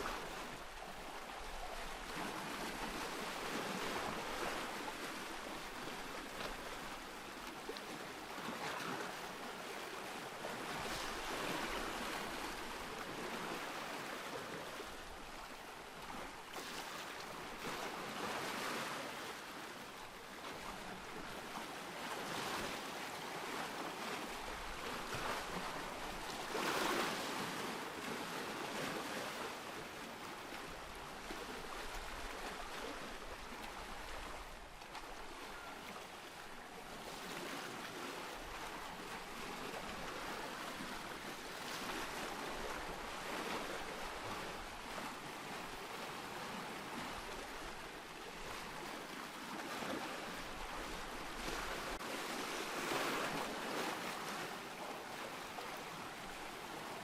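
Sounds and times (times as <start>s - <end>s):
ocean waves washing ashore: 0.0s - 57.0s.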